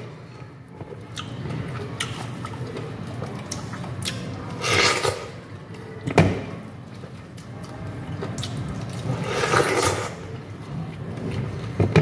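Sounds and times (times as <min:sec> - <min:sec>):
chewing juicy fruit: 0:00.8 - 0:06.1, 0:06.9 - 0:11.8.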